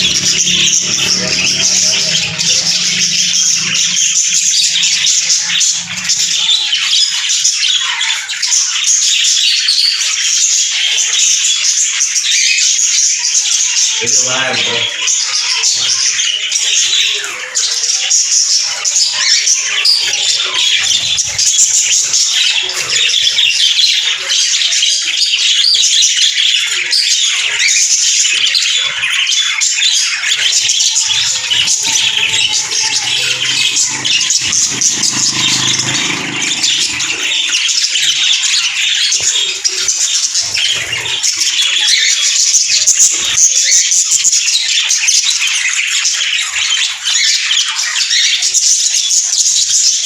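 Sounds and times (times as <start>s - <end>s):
budgerigars chattering and squawking: 0.0s - 50.0s.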